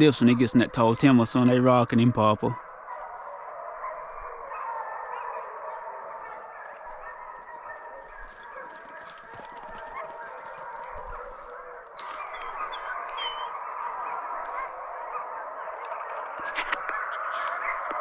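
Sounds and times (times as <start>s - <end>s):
hounds baying: 0.0s - 18.0s.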